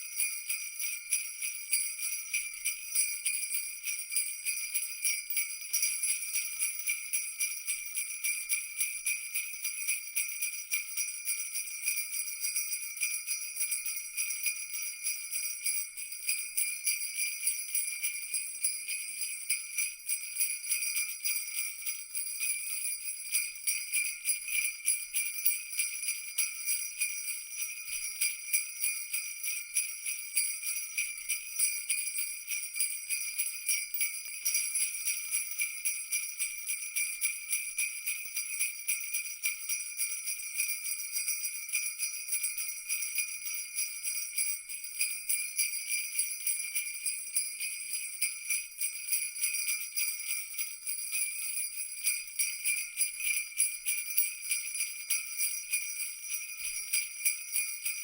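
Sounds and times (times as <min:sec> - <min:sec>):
jingle bells shaken: 0:00.0 - 0:58.0.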